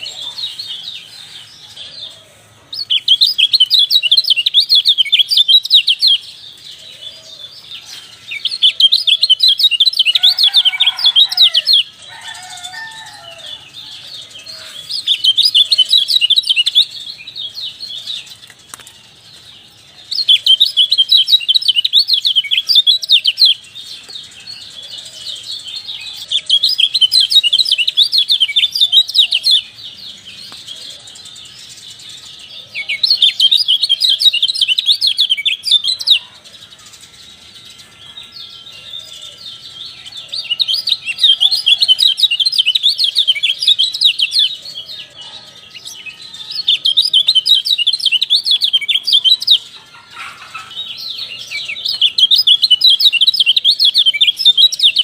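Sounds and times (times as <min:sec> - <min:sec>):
songbird chattering song: 0:00.0 - 0:55.0.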